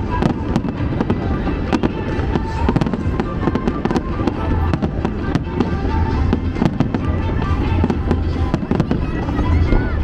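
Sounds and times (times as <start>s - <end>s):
fireworks bangs and crackles: 0.0s - 10.0s
music playing: 0.0s - 10.0s.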